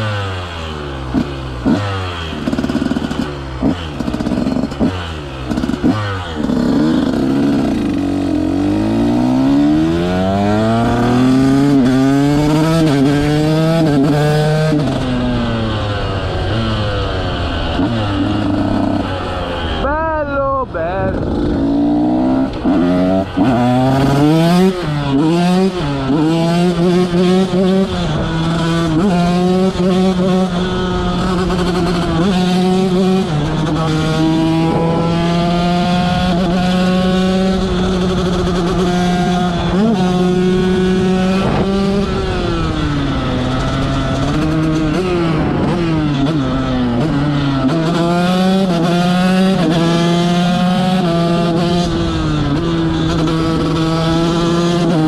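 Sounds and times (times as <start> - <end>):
motocross bike engine revving: 0.0 - 19.9, 21.0 - 55.0.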